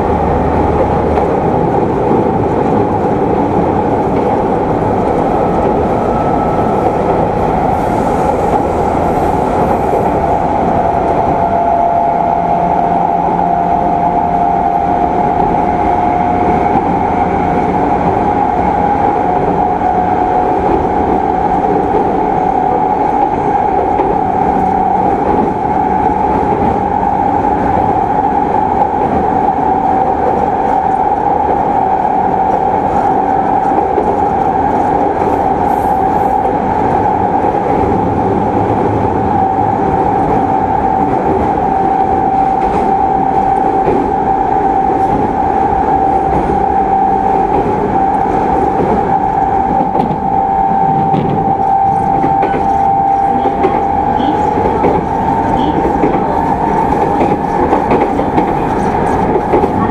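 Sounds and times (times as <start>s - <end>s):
train rolling noise: 0.0s - 59.9s.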